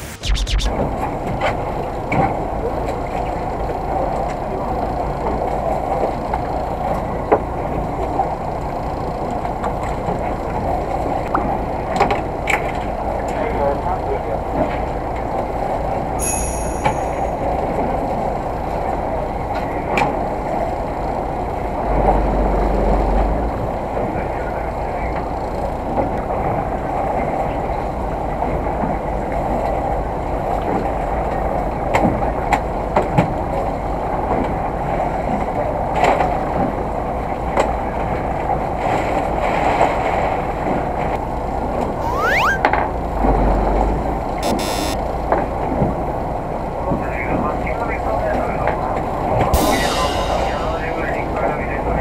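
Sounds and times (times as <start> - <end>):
wind: 0.7 - 50.0.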